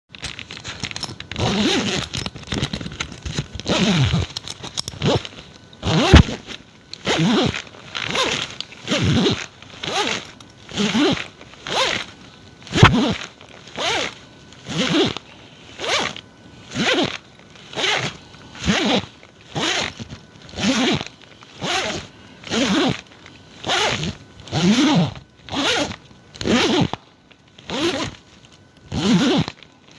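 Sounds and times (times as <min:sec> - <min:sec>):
zipper pulled open and closed: 0:00.2 - 0:12.1, 0:12.7 - 0:15.2, 0:15.8 - 0:23.0, 0:23.6 - 0:27.0, 0:27.6 - 0:28.2, 0:28.9 - 0:29.6.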